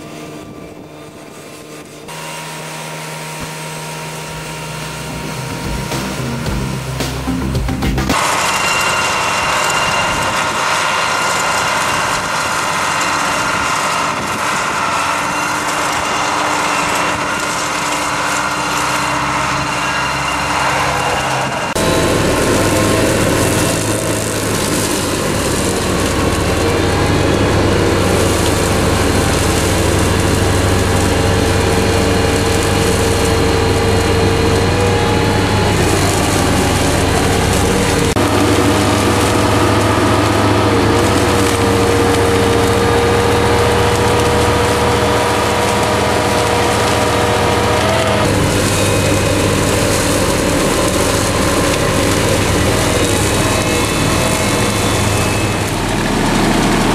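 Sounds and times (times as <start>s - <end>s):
steady whine: 0.0s - 56.9s
tractor engine running: 0.0s - 56.9s
hedge cutter chopping grass: 1.4s - 56.9s.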